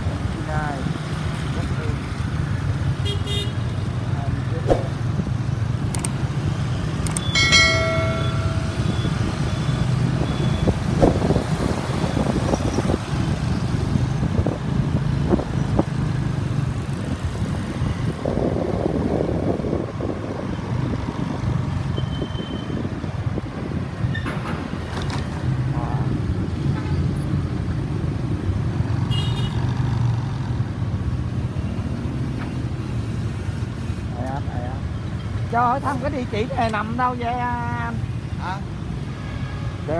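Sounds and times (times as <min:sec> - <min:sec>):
street traffic: 0:00.0 - 0:39.9.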